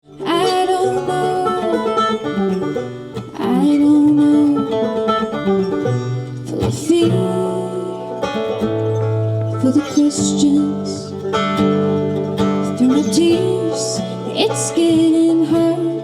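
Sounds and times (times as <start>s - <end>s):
bluegrass string band playing: 0.0s - 16.0s
strummed guitar accents: 0.0s - 16.0s.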